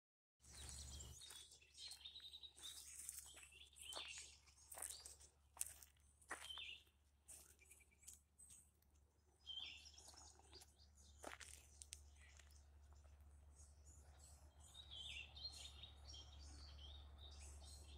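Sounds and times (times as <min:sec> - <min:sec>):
small birds chirping sharply: 0:00.4 - 0:08.6, 0:09.4 - 0:17.9.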